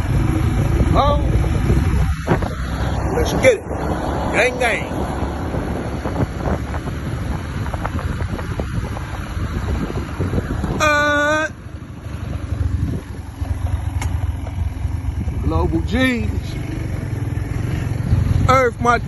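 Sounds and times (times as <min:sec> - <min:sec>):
low outdoor rumble: 0:00.0 - 0:19.0
wind buffeting microphone: 0:00.0 - 0:19.0.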